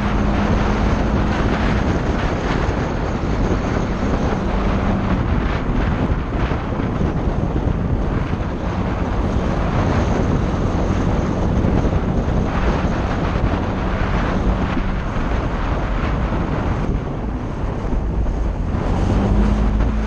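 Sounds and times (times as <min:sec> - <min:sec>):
scooter engine humming: 0:00.0 - 0:20.0
wind rush on microphone: 0:00.0 - 0:20.0.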